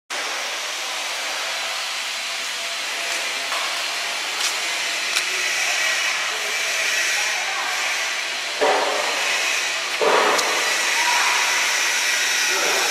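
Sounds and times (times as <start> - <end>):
laser cutting machine hissing: 0.2 - 12.9.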